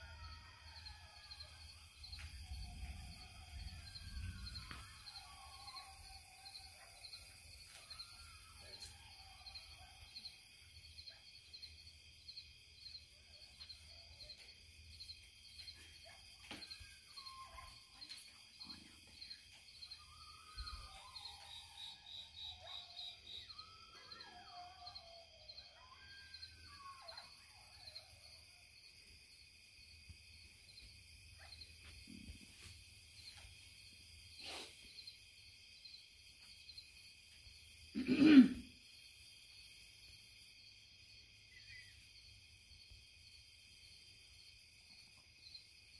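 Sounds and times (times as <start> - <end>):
distant coyotes howling and yipping: 0.0 - 38.2, 38.9 - 45.9
trilling night insects: 0.0 - 45.9.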